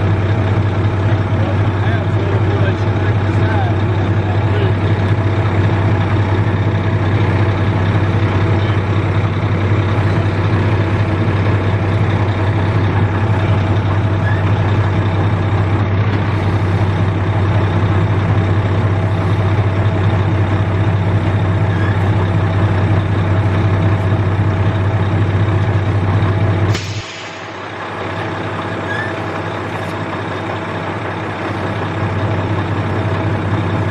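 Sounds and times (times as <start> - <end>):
heavy machinery engine running: 0.0 - 33.9.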